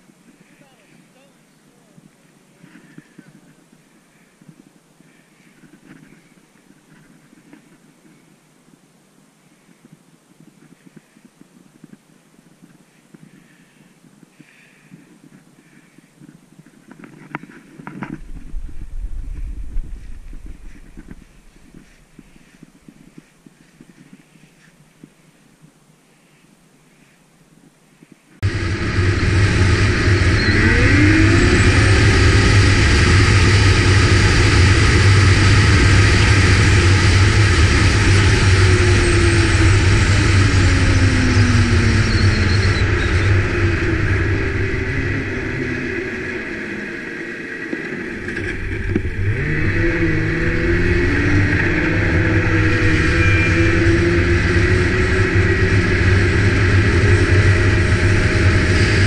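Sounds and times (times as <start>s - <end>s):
snowmobile engine and track noise: 0.0s - 8.2s, 14.4s - 24.7s, 28.4s - 59.0s.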